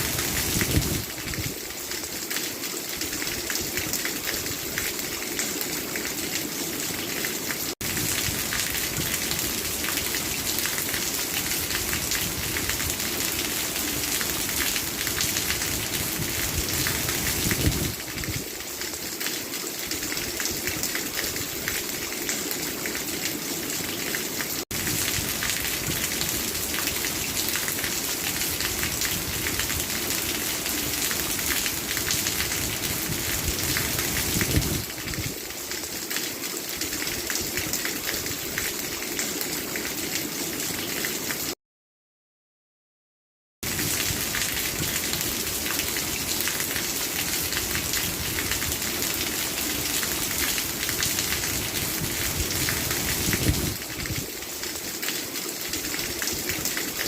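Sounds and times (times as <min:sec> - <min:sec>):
steady rain falling: 0:00.0 - 0:41.6, 0:43.6 - 0:57.0.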